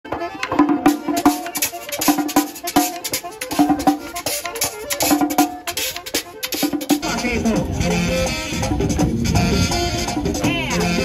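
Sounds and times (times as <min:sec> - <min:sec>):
upbeat music with drums: 0:00.1 - 0:11.0.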